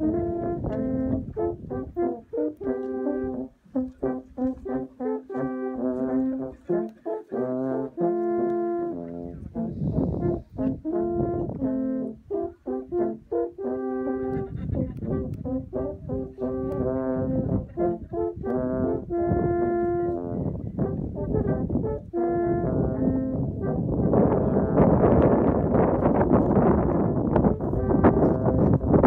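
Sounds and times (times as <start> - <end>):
alphorns playing in harmony: 0.0 - 25.4.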